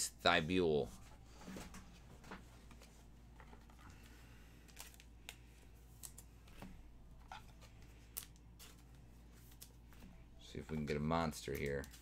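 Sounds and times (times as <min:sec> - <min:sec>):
trading cards clicking and rustling: 0:01.6 - 0:12.0.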